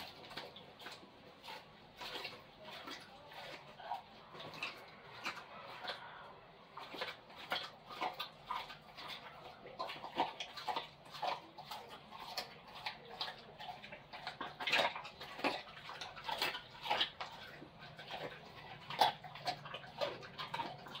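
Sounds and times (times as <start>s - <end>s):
dog chewing: 0.0s - 21.0s.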